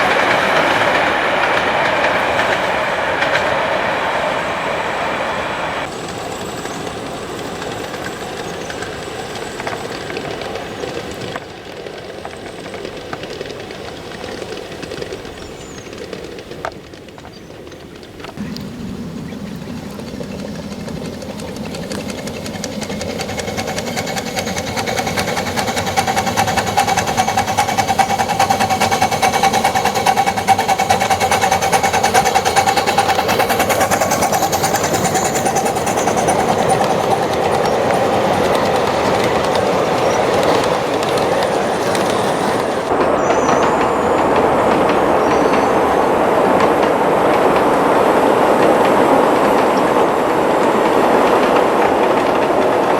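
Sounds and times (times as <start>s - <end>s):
steady whine: 0.0s - 11.4s, 18.3s - 52.0s
train wheels clicking on rails: 0.0s - 52.9s.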